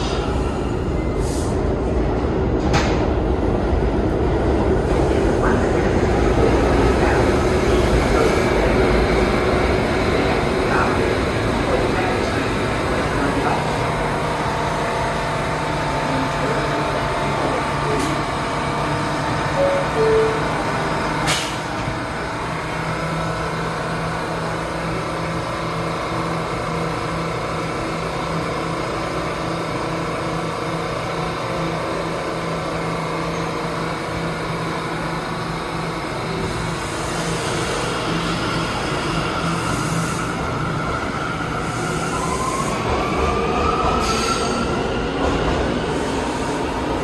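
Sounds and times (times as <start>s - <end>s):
subway station hum: 0.0s - 47.0s.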